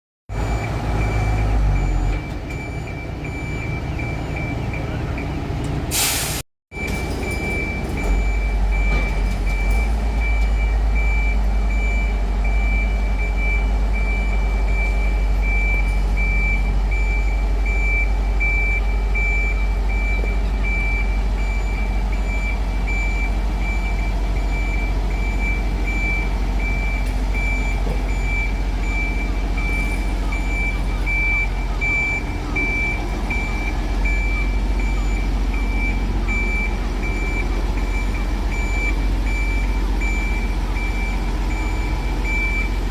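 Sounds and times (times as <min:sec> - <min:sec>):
reversing warning beeps: 0:00.3 - 0:42.9.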